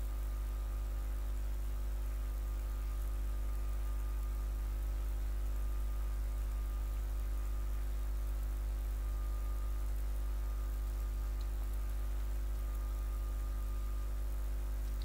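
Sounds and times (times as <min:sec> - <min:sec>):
faint hiss: 0:00.0 - 0:15.0
low electrical hum with buzz: 0:00.0 - 0:15.0.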